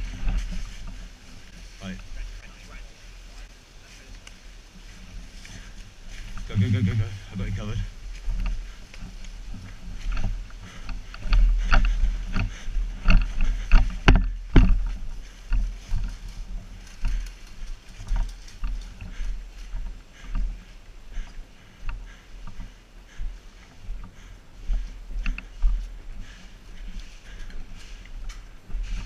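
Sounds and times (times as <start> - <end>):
carried gear rattling: 0.0 - 2.3, 3.0 - 29.0
footsteps running on grass: 0.0 - 29.0
low rumble on microphone: 0.0 - 29.0.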